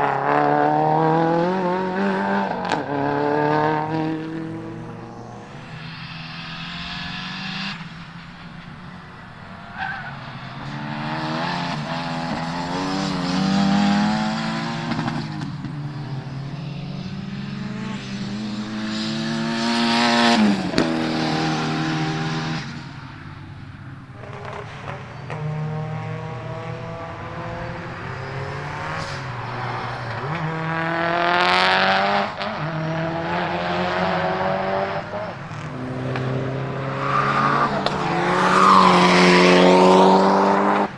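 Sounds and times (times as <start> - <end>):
turbocharged car engines revving: 0.0 - 40.9.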